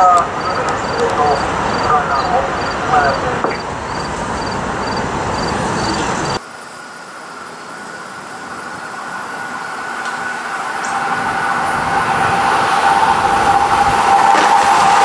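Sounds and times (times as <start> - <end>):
train approaching with high hum: 0.0 - 15.0
train running past: 0.0 - 15.0.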